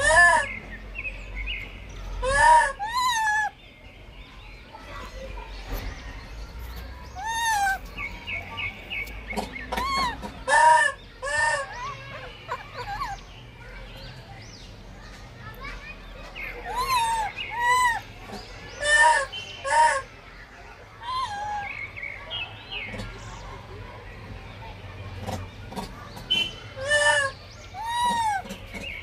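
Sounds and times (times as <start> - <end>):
high-pitched bird calls: 0.0 - 14.7, 15.5 - 23.6, 25.7 - 29.0
birds chirping: 0.0 - 29.0.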